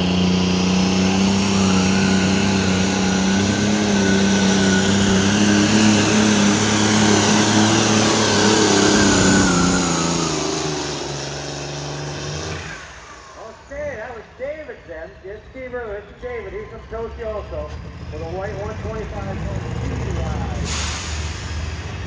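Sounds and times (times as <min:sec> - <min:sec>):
diesel tractor engine running flat out: 0:00.0 - 0:22.0.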